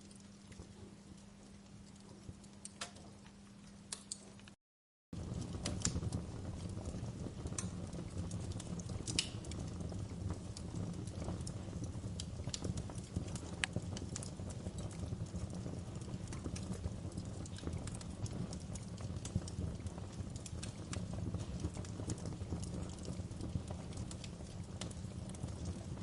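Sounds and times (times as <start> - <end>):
fire crackling and popping: 0.0 - 4.6, 5.2 - 26.0
low rumble of flames: 0.0 - 4.6, 5.2 - 26.0.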